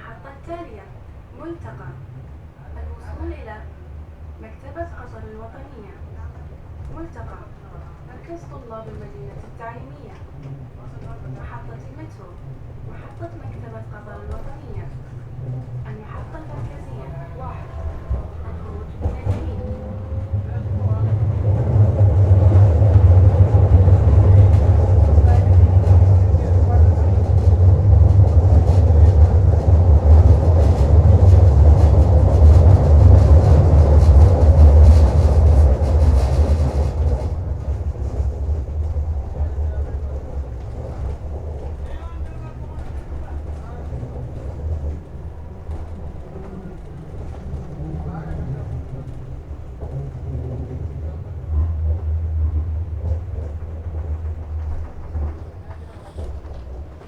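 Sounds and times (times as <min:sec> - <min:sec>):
tram rumbling on rails: 0:00.0 - 0:57.0.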